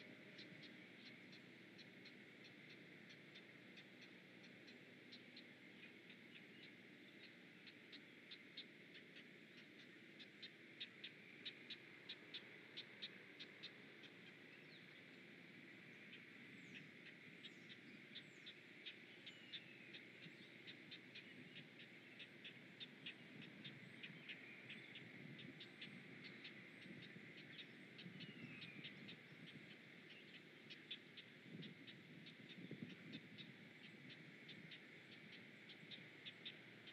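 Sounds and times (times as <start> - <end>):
nestlings ticking calls: 0.0 - 36.9.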